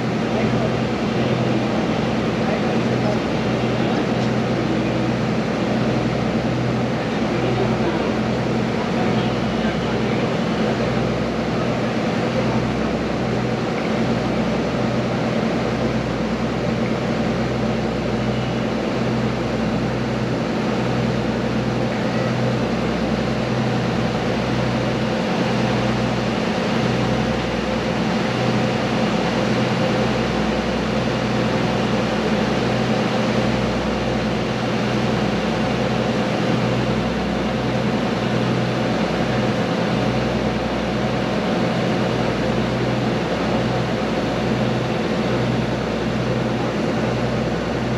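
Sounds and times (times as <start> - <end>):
ferry engine humming: 0.0 - 47.9.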